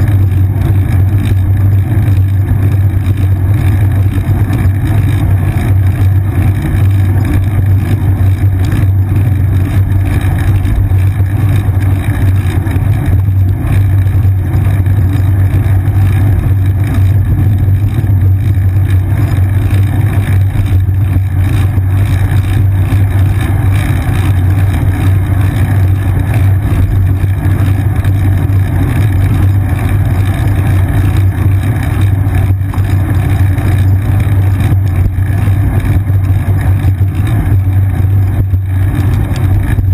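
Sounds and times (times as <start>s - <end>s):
bicycle road vibration rumble: 0.0s - 39.9s.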